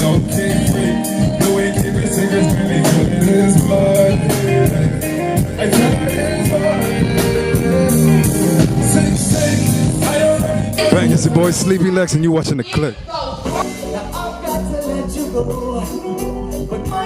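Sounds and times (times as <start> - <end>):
person singing: 0.0 - 12.1, 13.5 - 17.0
guitar: 0.0 - 12.2, 13.3 - 17.0
drum kit beat: 0.0 - 17.0.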